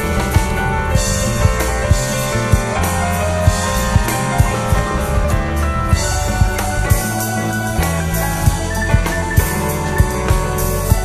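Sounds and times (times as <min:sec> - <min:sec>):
drum kit beat: 0:00.0 - 0:11.0
electric keyboard melody: 0:00.0 - 0:11.0.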